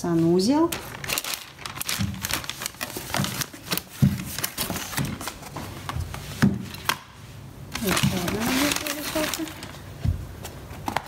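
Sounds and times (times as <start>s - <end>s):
plastic bag rustling: 0.2s - 7.0s, 7.7s - 10.9s.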